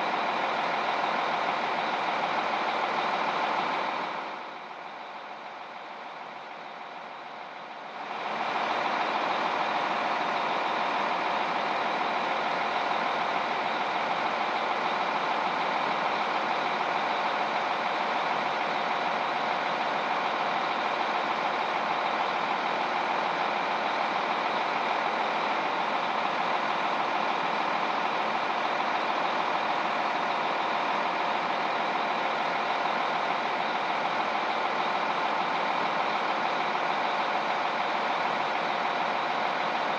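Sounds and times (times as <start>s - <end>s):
heavy vehicle engine drone: 0.0s - 39.9s.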